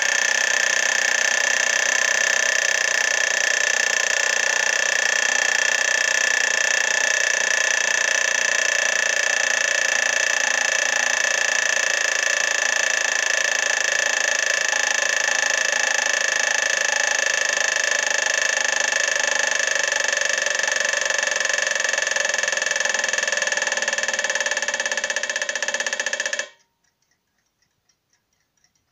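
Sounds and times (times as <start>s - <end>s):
alarm clock bell ringing: 0.0s - 26.7s
faint clock ticking: 0.0s - 28.9s.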